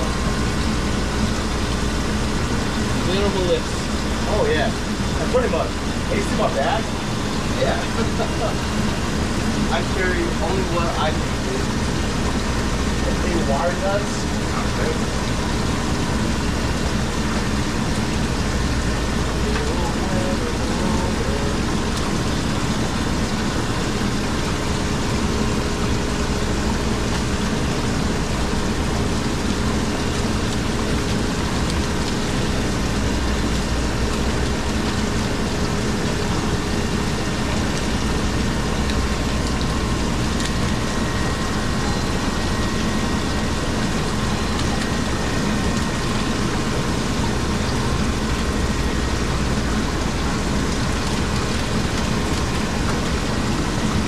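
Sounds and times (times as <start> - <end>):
machinery hiss and hum: 0.0 - 54.0.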